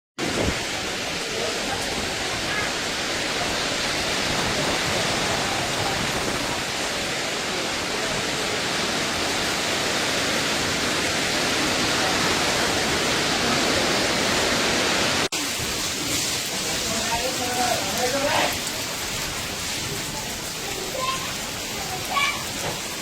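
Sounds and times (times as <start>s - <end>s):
rushing water: 0.2s - 23.0s.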